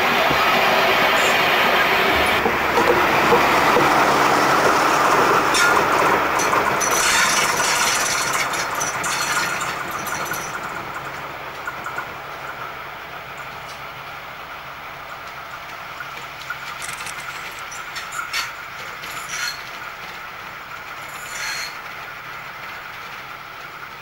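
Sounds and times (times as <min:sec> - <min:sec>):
train passing with engine noise: 0:00.0 - 0:24.0
wheels clicking on rails: 0:00.1 - 0:14.0, 0:15.0 - 0:24.0.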